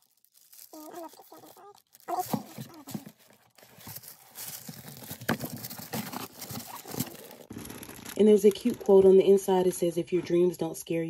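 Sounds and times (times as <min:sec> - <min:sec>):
cardboard and paper rustling: 0:00.0 - 0:09.3.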